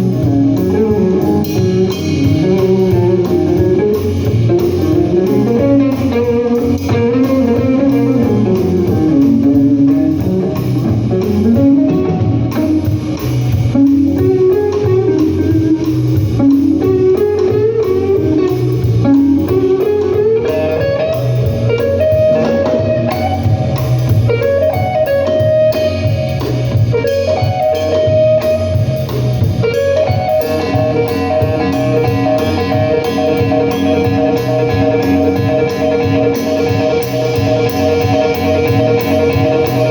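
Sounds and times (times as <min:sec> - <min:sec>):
low bass part: 0:00.0 - 0:27.0, 0:27.8 - 0:39.9
blues guitar sliding notes: 0:00.0 - 0:39.9.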